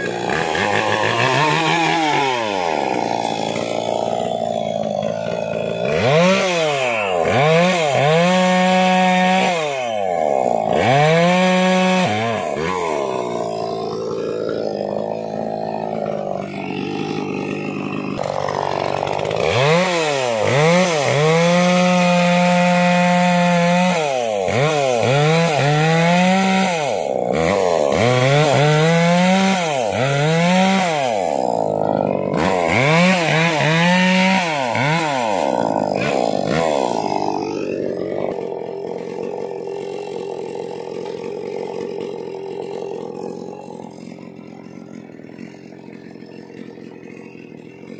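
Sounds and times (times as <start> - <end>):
chainsaw cutting through log: 0.0 - 47.9.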